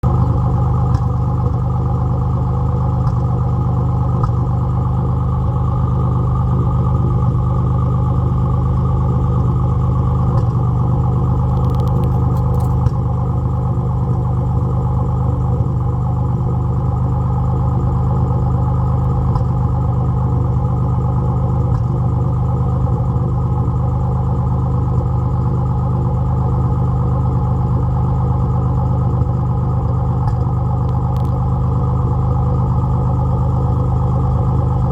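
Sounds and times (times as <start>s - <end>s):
car engine running with misfire: 0.0s - 34.9s.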